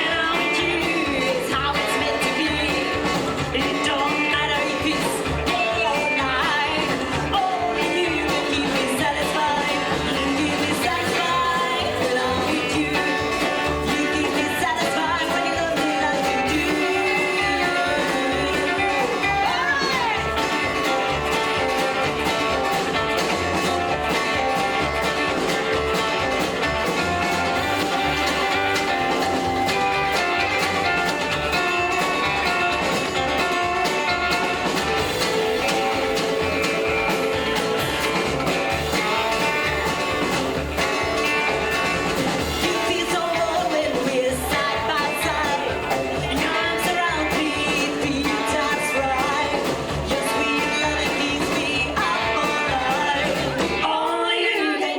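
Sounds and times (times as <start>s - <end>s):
person singing: 0.0s - 54.9s
rockabilly band playing: 0.0s - 54.9s.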